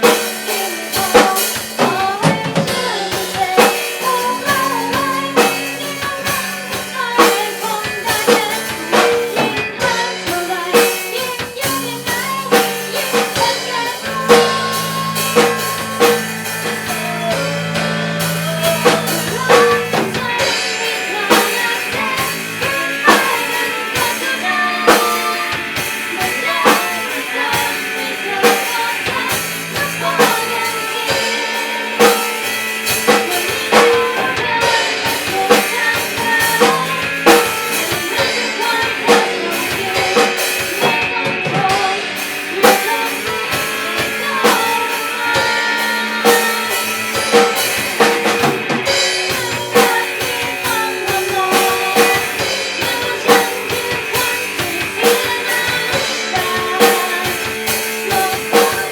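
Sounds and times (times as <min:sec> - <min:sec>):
bass: 0:00.0 - 0:58.9
driving drum kit: 0:00.0 - 0:58.9
guitar: 0:00.0 - 0:58.9
person singing: 0:00.0 - 0:58.9.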